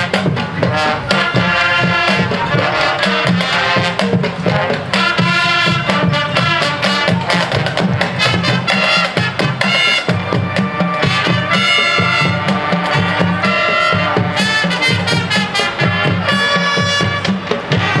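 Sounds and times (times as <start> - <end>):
brass horns: 0.0 - 18.0
driving percussion beat: 0.0 - 18.0.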